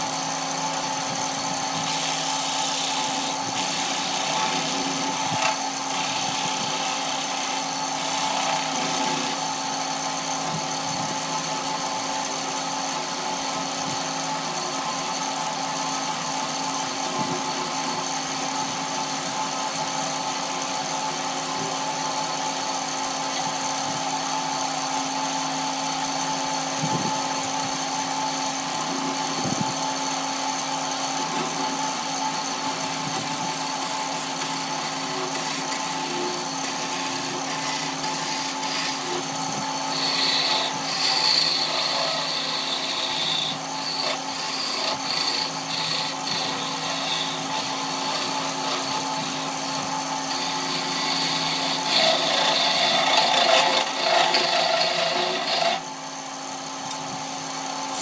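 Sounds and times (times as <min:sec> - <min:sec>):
gouge scraping spinning wood: 0:00.0 - 0:56.6
lathe motor hum: 0:00.0 - 0:58.0.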